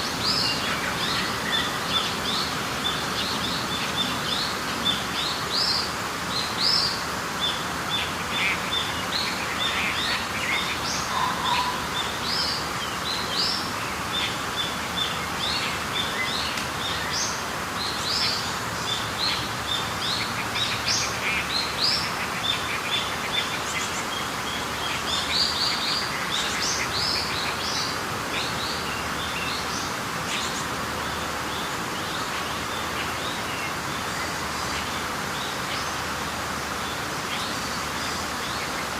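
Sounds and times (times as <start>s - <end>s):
small birds chirping: 0.0s - 38.9s
steady background hiss: 0.0s - 38.9s.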